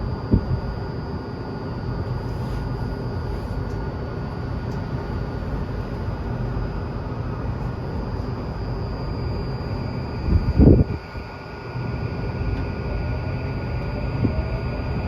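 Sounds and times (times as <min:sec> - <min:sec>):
faint high whine: 0:00.0 - 0:15.0
train wheels and motors rumbling: 0:00.0 - 0:15.0.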